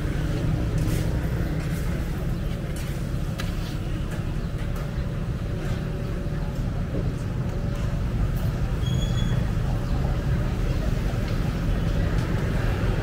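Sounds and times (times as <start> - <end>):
faint voices: 0.0 - 13.0
low traffic rumble: 0.0 - 13.0.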